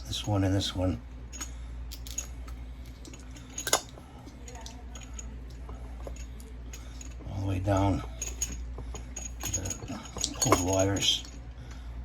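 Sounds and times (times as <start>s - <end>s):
steady low hum: 0.0s - 12.0s
metal lamp parts clinking: 1.3s - 11.5s.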